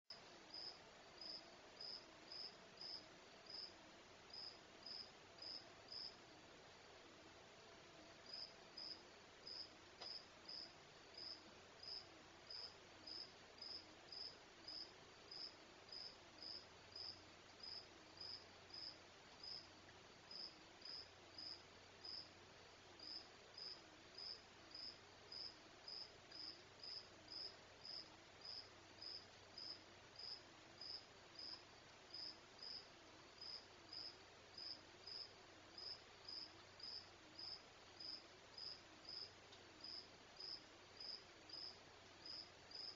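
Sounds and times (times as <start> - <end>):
cricket chirping: 0.5 - 6.2, 8.2 - 19.7, 20.3 - 22.3, 23.0 - 42.9.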